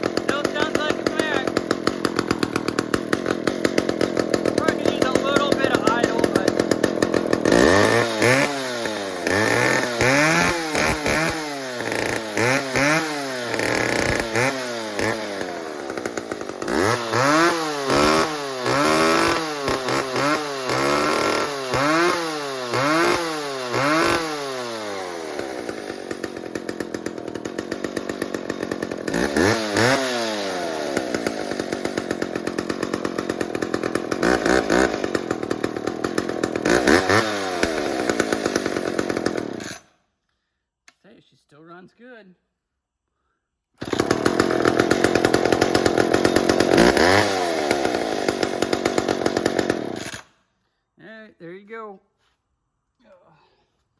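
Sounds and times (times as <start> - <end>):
chainsaw engine revving and idling: 0.0 - 39.9, 43.8 - 50.4.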